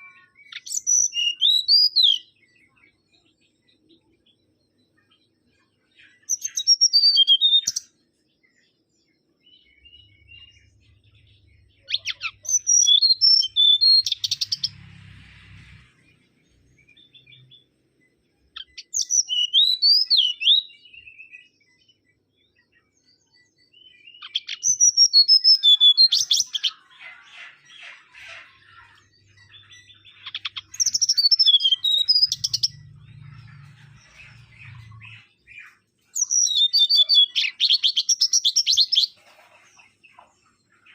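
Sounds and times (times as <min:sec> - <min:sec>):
whistler bird singing: 0:00.0 - 0:14.8, 0:16.1 - 0:39.2.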